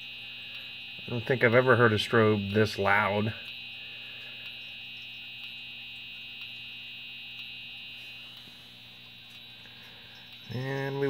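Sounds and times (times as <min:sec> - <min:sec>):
strobe whining high-pitched: 0:00.0 - 0:11.0.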